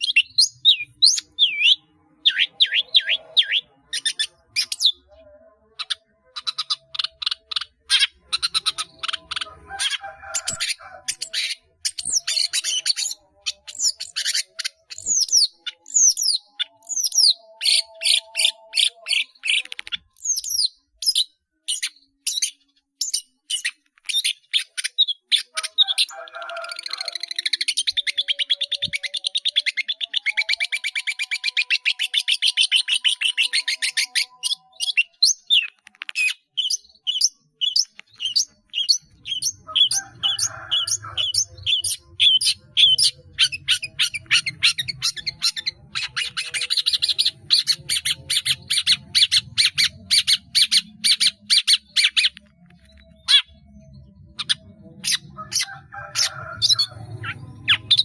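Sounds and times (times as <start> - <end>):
bird singing mimicked calls: 0.0 - 58.0.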